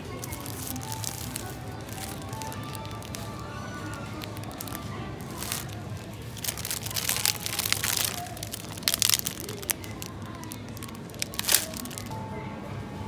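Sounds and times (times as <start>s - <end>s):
plastic bags crinkling: 0.0s - 12.1s.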